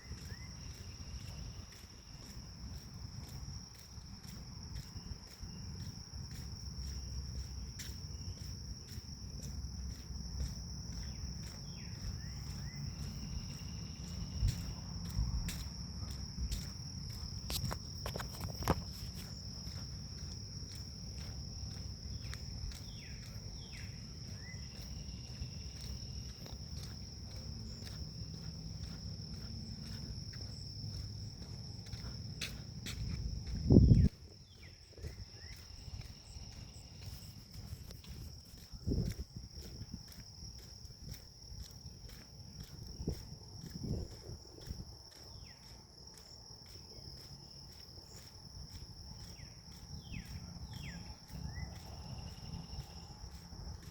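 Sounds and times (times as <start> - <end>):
wind rumble on microphone: 0.0 - 24.0, 24.6 - 45.5
footsteps on forest path: 0.0 - 53.9
grass insects trilling: 0.0 - 53.9.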